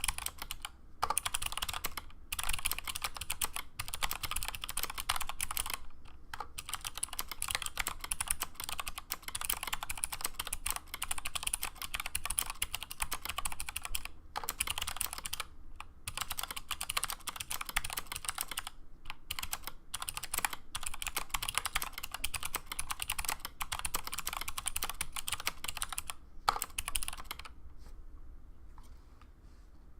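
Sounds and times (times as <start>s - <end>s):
clicky mechanical keyboard typing: 0.0s - 27.6s.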